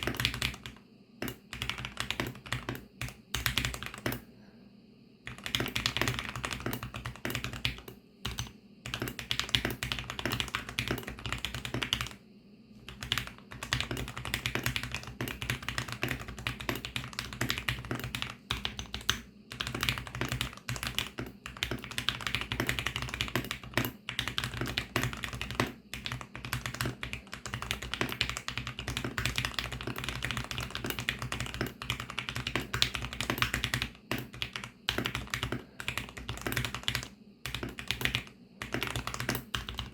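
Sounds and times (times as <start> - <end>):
mechanical keyboard typing: 0.0 - 4.2, 5.3 - 12.2, 12.9 - 39.9.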